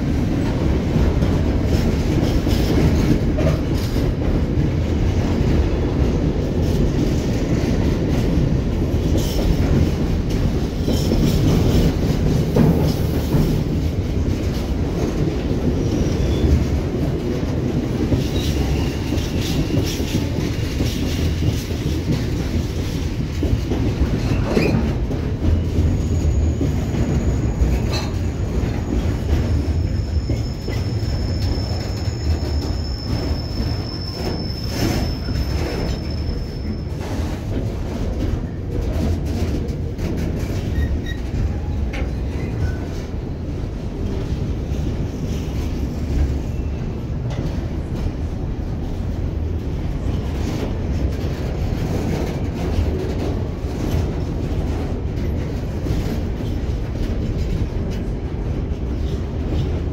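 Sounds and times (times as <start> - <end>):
freight train wagons rumbling: 0.0 - 59.9.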